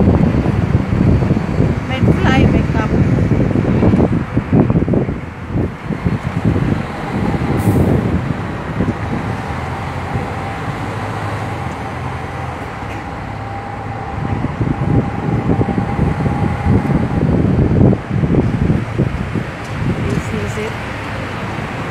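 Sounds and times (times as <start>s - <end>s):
bus engine and road rumble: 0.0s - 21.9s
wind buffeting microphone: 0.0s - 21.9s.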